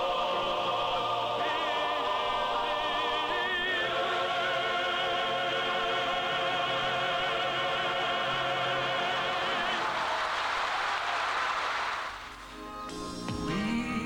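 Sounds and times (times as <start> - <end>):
music: 0.0 - 10.0, 12.3 - 14.0
voices singing a hymn: 0.0 - 11.3.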